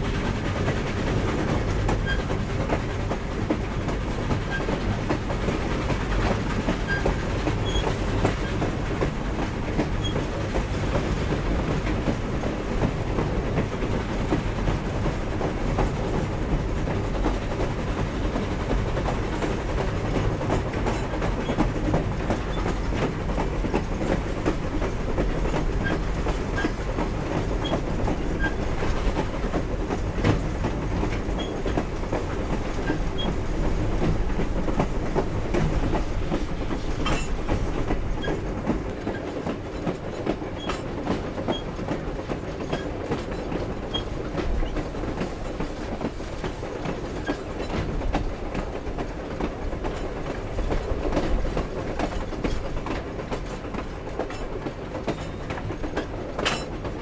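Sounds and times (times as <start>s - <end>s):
steady train rumble: 0.0s - 57.0s
train cars clanking and rattling: 0.0s - 57.0s
train wheels clicking over rail joints: 0.0s - 57.0s.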